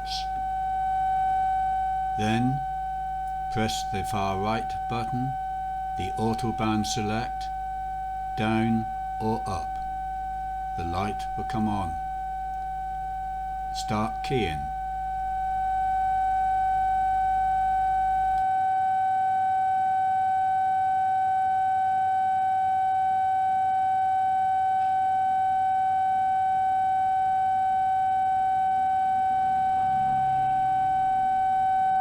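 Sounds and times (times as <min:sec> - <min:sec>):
continuous steady tone: 0:00.0 - 0:32.0.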